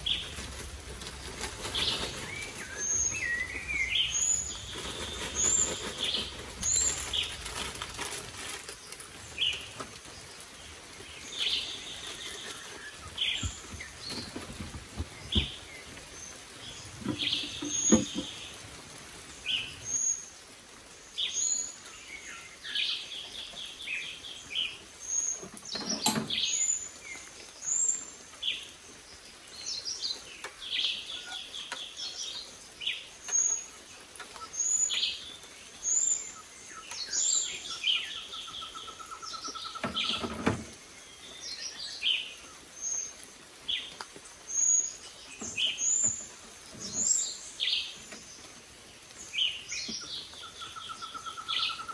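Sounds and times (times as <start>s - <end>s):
birds chirping and calling: 0.0s - 18.7s, 21.1s - 51.9s.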